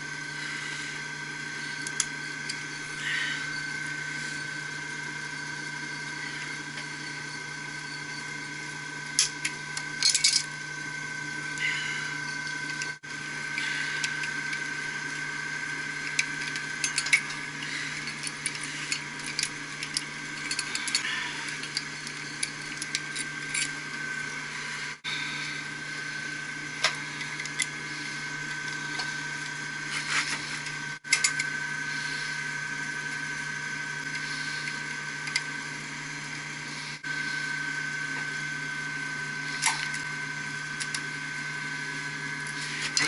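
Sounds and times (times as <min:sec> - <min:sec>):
machinery hum and whine: 0:00.0 - 0:43.0.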